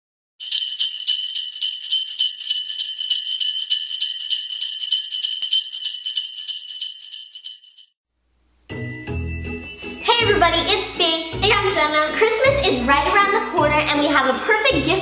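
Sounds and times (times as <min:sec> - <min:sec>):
sleigh bells jingling: 0:00.4 - 0:08.0, 0:08.8 - 0:15.0.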